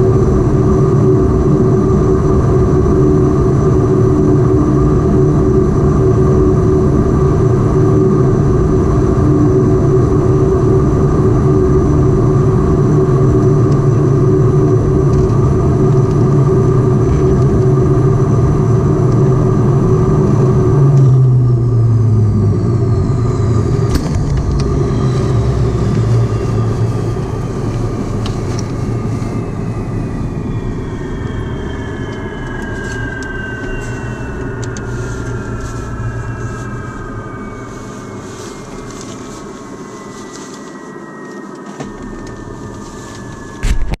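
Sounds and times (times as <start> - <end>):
turboprop engines winding down: 0.0 - 44.0.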